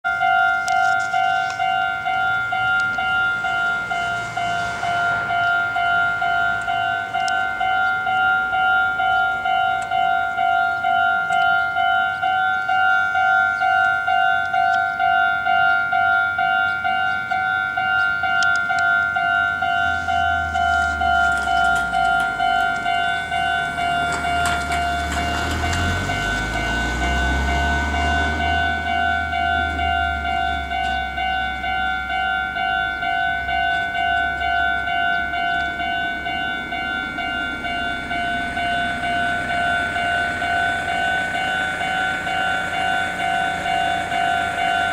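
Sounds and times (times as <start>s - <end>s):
level crossing bell ringing: 0.0s - 44.9s
train rumble and wheel clatter: 0.1s - 44.9s.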